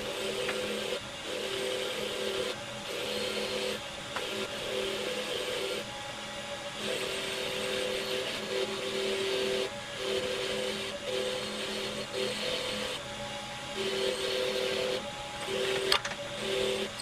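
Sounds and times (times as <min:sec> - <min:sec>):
electric power tool running: 0:00.0 - 0:17.0.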